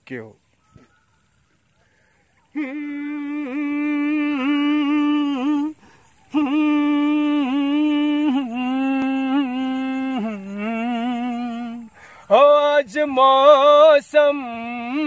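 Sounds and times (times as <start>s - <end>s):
man humming a slow tune: 2.4s - 15.0s.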